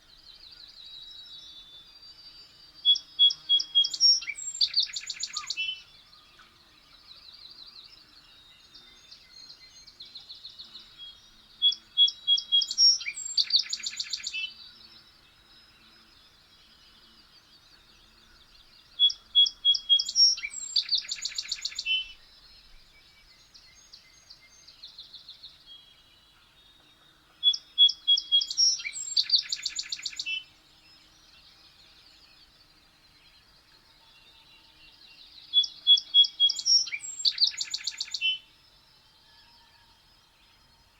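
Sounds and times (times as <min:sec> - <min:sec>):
soft bird chirps: 0:00.0 - 0:40.9
songbird singing trills: 0:00.0 - 0:40.9.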